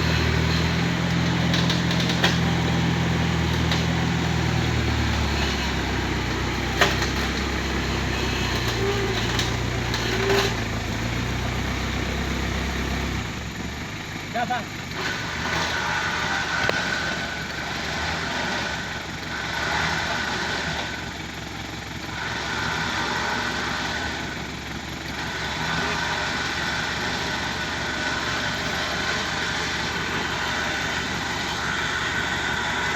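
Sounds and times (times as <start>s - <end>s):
truck engine running: 0.0s - 32.9s.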